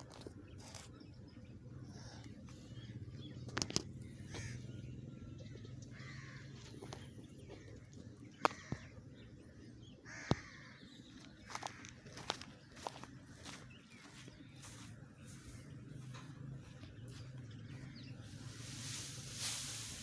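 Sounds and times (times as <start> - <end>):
birds calling: 0.0 - 20.0
low steady background hum: 0.0 - 20.0.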